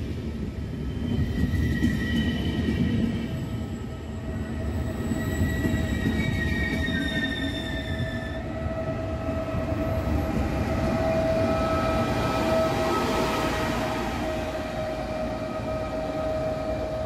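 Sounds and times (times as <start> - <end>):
electric locomotive whine: 0.0 - 17.0
train wheels rumbling on rails: 0.0 - 17.0.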